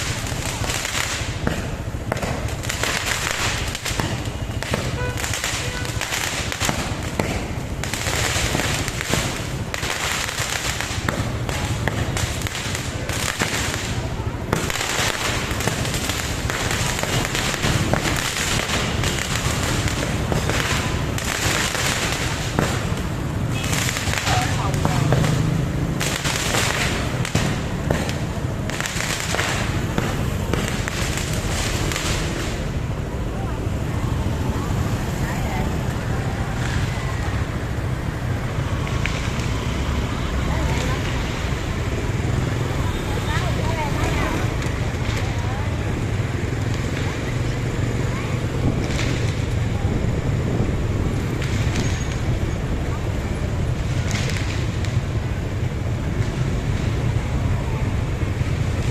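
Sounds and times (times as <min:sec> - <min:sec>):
fireworks and firecrackers popping: 0:00.0 - 0:58.9.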